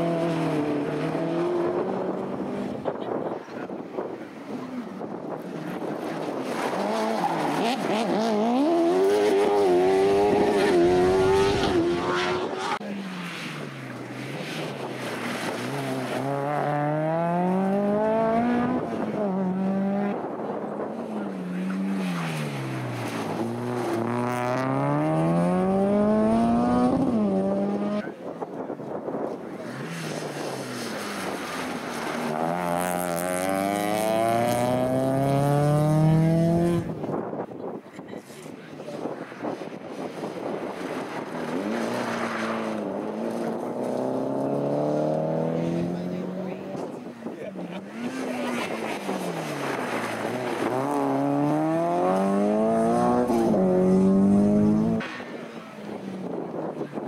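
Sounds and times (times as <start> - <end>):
race car engines accelerating: 0.0 - 37.3, 38.0 - 57.0.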